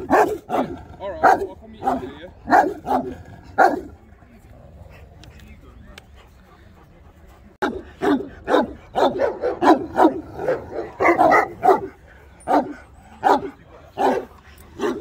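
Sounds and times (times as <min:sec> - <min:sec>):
large dogs barking deeply: 0:00.0 - 0:05.4, 0:07.4 - 0:15.0.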